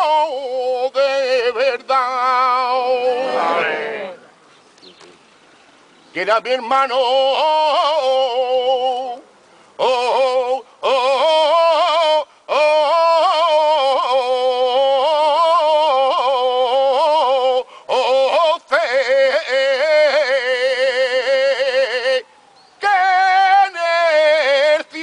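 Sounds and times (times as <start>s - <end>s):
unaccompanied voice singing: 0.0s - 4.3s, 6.2s - 25.0s.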